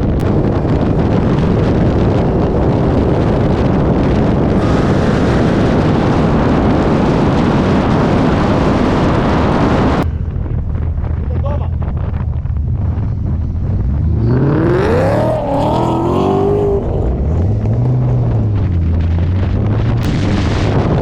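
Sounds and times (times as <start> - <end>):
car engine: 0.0 - 21.0
road noise: 0.0 - 21.0
wind buffeting microphone: 0.0 - 21.0.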